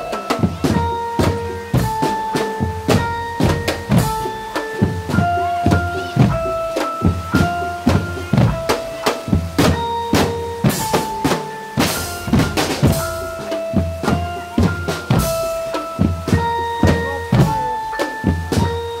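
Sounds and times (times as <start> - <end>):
bass drum and snare beat: 0.0 - 19.0
held melody notes: 0.0 - 19.0.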